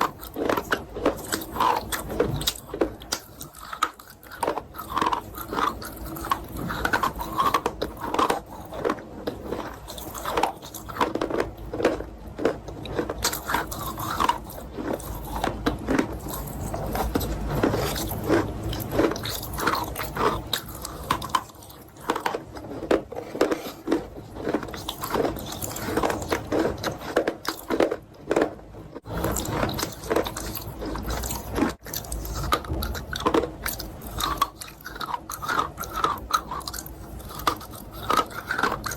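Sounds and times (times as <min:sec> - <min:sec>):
chalk crunching and chewing: 0:00.0 - 0:38.9.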